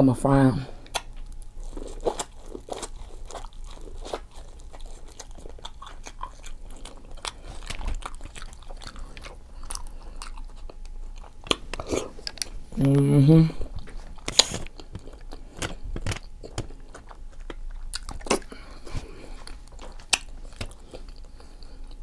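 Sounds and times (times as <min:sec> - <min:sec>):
chewing and biting food: 0:00.8 - 0:12.6, 0:13.6 - 0:22.0.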